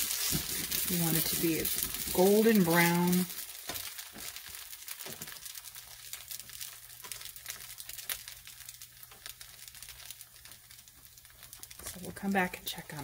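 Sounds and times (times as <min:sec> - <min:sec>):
bread sizzling in a frying pan: 0:00.0 - 0:13.0.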